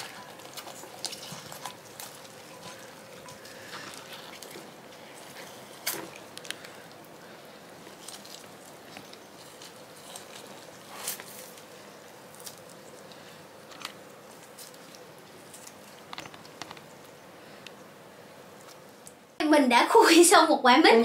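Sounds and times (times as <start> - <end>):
fruit fibres tearing and crackling: 0.0 - 16.9
faint steady hum: 0.0 - 21.0.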